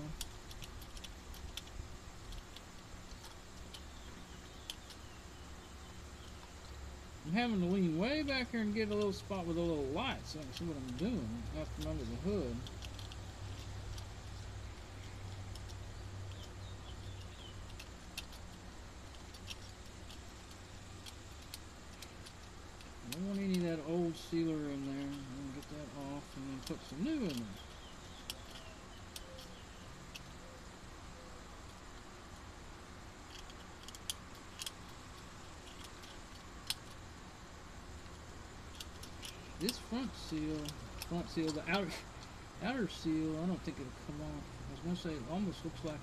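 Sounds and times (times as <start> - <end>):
light clicks of small parts and tools: 0.0 - 5.2, 6.2 - 30.6, 33.2 - 37.1, 37.8 - 46.0
low steady hum: 0.0 - 46.0.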